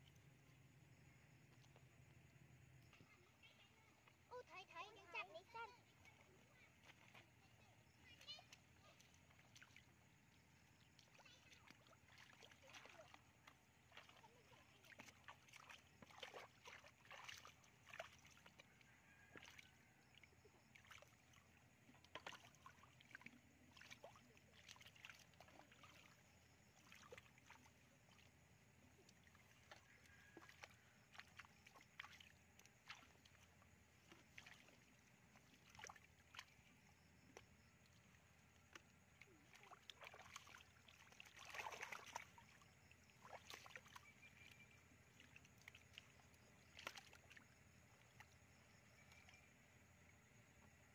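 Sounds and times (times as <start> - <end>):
splashing in shallow water: 0.0 - 50.9.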